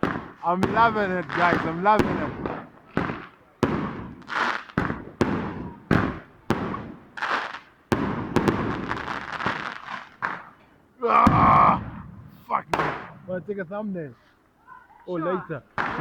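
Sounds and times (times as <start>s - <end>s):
fireworks banging: 0.0s - 14.2s, 15.4s - 16.0s.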